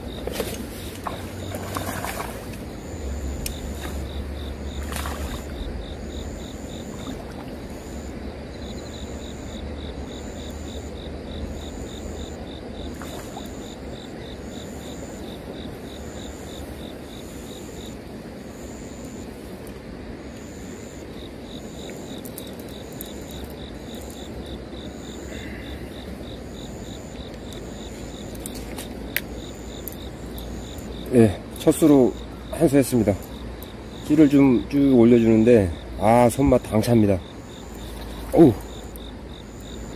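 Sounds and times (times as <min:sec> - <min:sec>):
insect pulsing trill: 0:00.0 - 0:19.2, 0:20.3 - 0:39.9
insect chirping: 0:00.0 - 0:39.9
steady background noise: 0:00.0 - 0:39.9.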